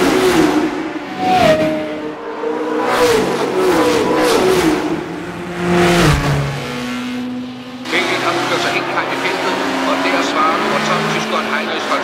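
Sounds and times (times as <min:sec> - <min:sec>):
race car engines passing by: 0:00.0 - 0:12.0.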